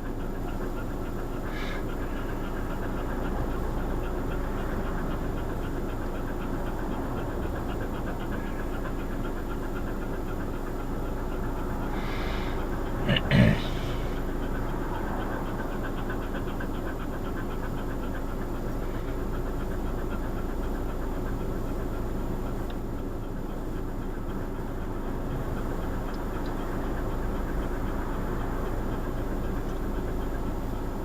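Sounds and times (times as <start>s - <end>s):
car engine and road noise: 0.0s - 31.0s
faint rapid ticking: 0.0s - 31.0s.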